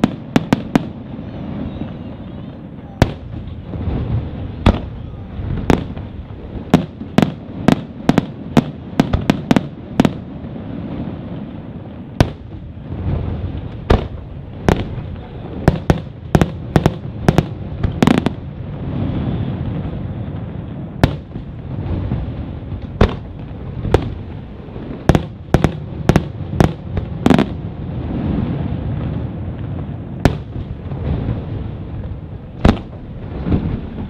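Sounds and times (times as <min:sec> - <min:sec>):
fireworks bursting with sharp bangs: 0:00.0 - 0:34.0
steady low rumble: 0:00.0 - 0:34.0.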